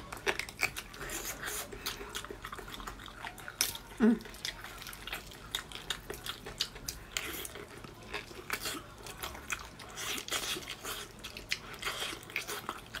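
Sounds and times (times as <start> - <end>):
wet eating smacks and clicks: 0.0 - 13.0.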